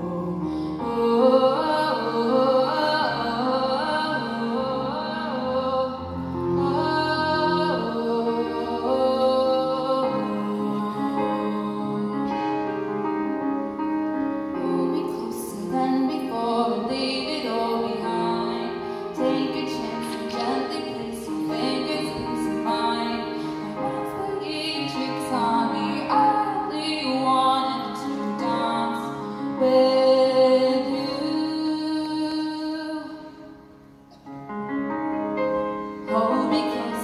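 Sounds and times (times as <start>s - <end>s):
woman singing: 0.0s - 13.3s, 14.5s - 33.6s, 35.9s - 37.0s
grand piano: 0.0s - 37.0s.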